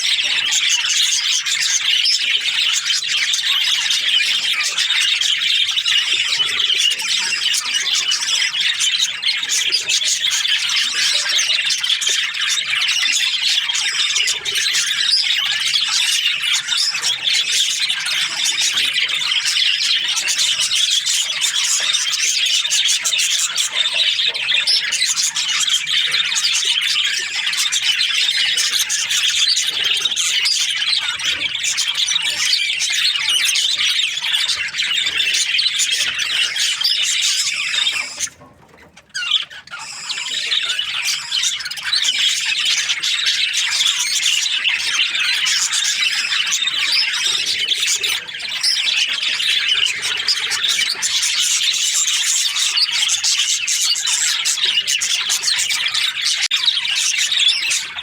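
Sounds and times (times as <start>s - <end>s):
budgerigars chattering and chirping: 0.0s - 58.0s.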